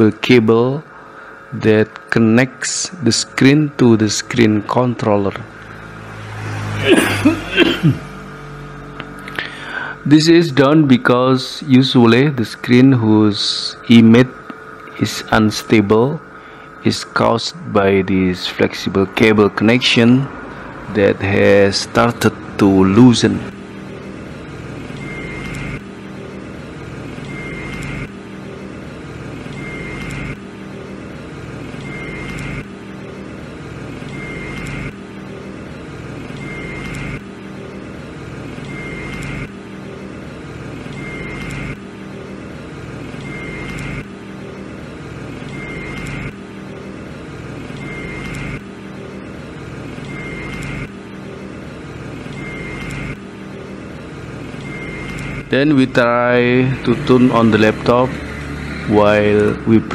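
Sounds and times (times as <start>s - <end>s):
looping background drone: 0.0s - 59.9s.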